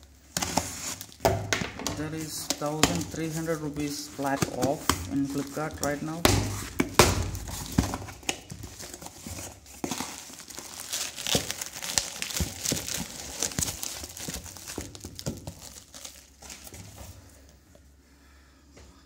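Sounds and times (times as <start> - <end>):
cardboard packaging handled: 0.0 - 17.4
bubble wrap crackling: 0.0 - 17.5.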